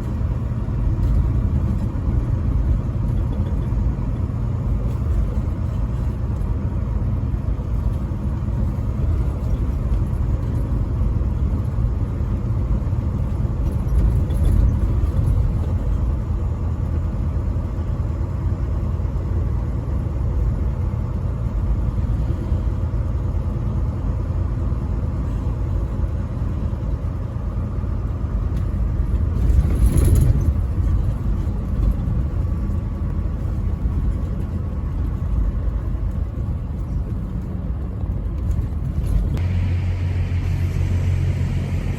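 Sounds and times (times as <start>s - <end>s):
truck engine and road rumble: 0.0s - 41.9s.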